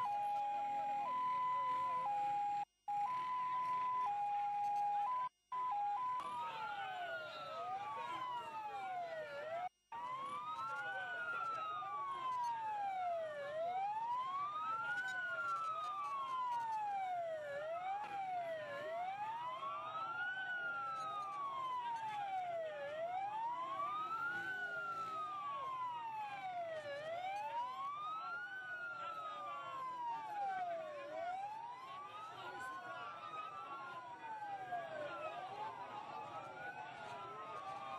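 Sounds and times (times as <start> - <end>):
police sirens wailing: 0.0 - 37.9.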